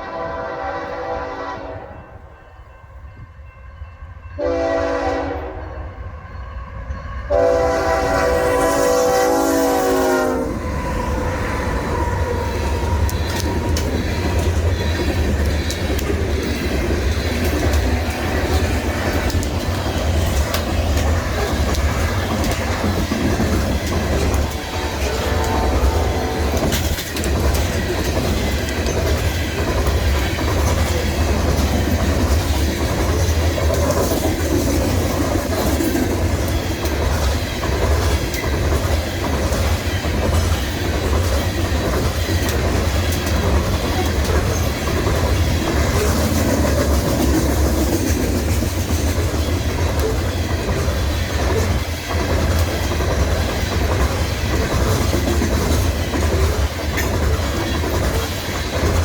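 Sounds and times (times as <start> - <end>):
freight train rumble: 0.0 - 59.0
wheels clacking over rail joints: 10.7 - 59.0.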